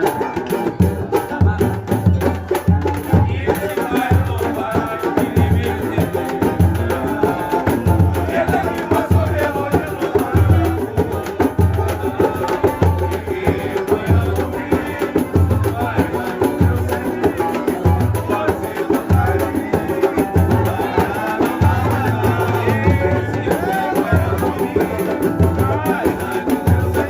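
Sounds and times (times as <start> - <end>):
hand percussion and shakers: 0.0 - 27.0
voices singing: 0.0 - 27.0.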